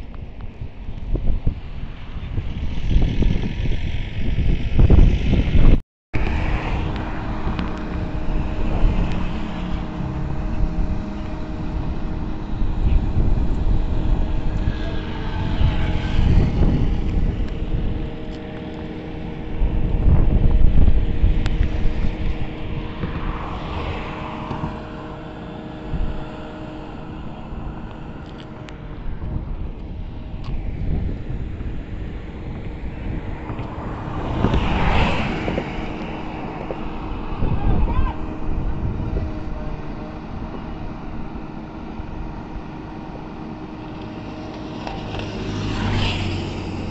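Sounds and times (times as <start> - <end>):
steady engine hum: 0.0 - 46.9
vehicles passing: 0.0 - 46.9
wind rumbling on microphone: 0.0 - 46.9.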